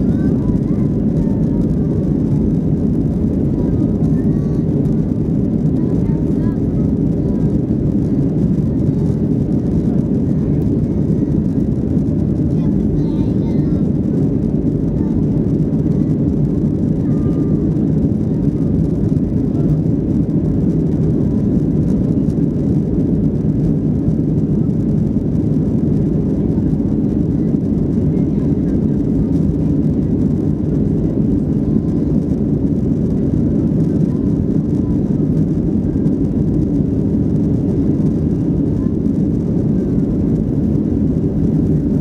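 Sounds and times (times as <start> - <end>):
airplane cabin engine rumble: 0.0 - 42.0.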